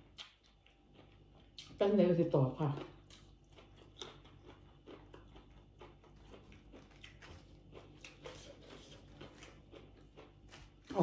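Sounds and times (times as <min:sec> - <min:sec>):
person chewing food: 0:00.0 - 0:01.8, 0:02.7 - 0:11.0.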